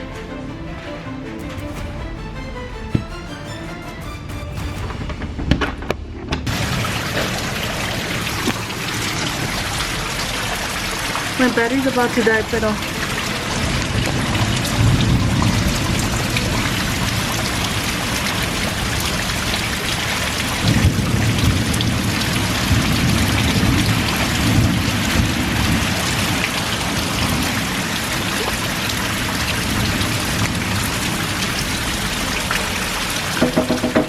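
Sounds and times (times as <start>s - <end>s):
heavy rain: 0.0s - 34.0s
thunder rumble: 1.4s - 33.4s.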